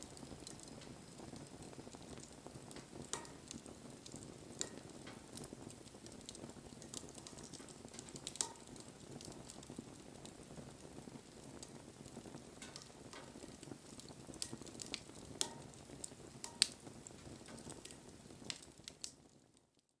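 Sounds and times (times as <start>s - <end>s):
campfire crackling: 0.0s - 19.8s.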